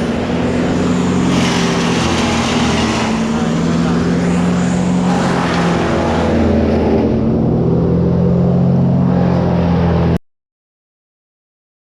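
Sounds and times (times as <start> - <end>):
engine running: 0.0 - 10.2.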